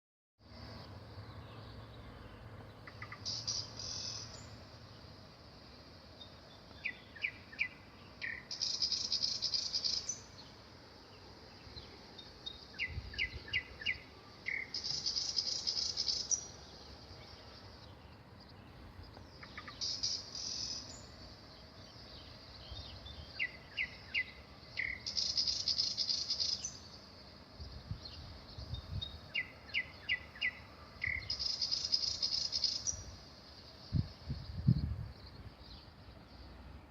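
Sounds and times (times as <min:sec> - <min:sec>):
nightingale singing: 0:00.5 - 0:36.9.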